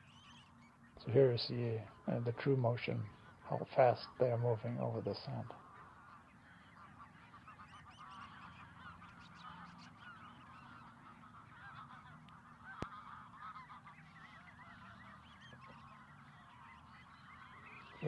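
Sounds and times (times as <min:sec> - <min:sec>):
flock of birds calling: 0:00.0 - 0:18.0.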